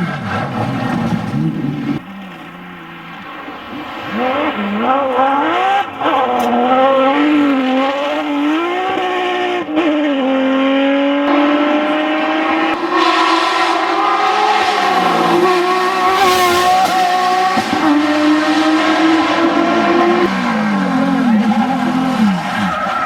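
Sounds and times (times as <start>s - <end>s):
car engine at full throttle: 0.0s - 23.0s.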